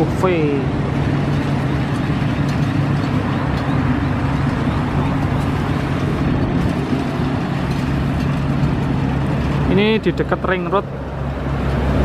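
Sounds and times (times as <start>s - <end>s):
combine harvester humming: 0.0s - 12.0s.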